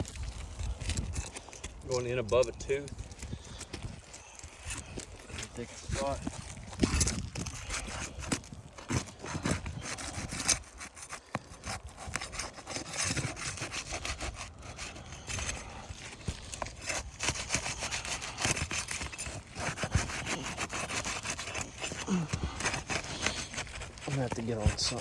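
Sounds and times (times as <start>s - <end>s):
pry bar scraping shingles: 0.0s - 25.0s.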